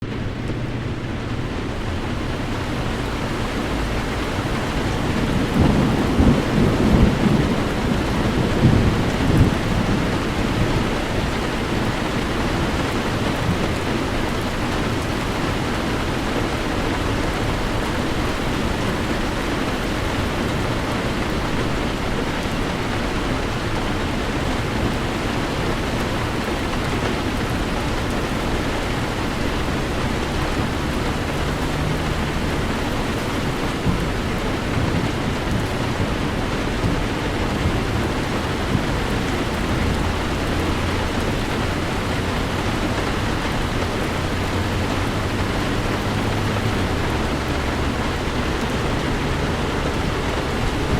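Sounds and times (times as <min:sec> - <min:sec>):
heavy rain on a car: 0:00.0 - 0:50.9
low rumble of thunder: 0:00.0 - 0:50.9.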